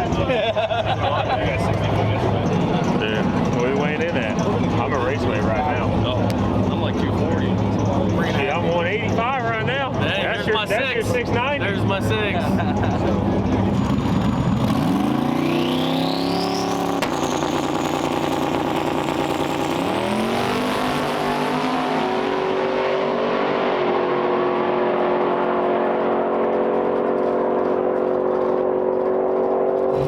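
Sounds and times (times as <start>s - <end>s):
car engine revving: 1.4s - 30.0s.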